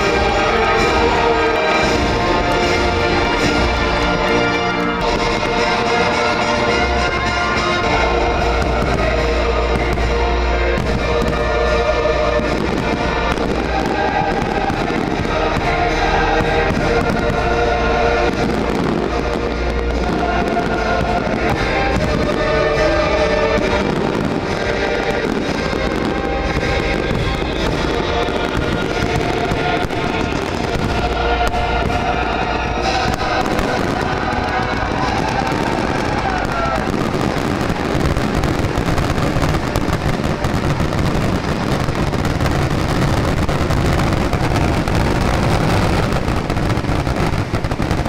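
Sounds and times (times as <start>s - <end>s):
fireworks bursting and crackling: 0.0s - 48.0s
loud music playing: 0.0s - 48.0s.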